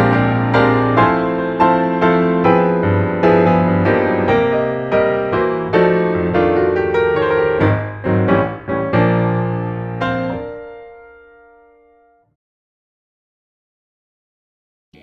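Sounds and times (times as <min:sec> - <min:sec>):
piano music: 0:00.0 - 0:12.4.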